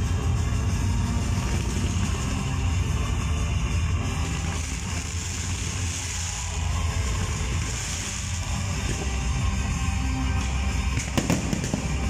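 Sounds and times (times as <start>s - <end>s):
fireworks rumble and crackle: 0.0s - 12.0s.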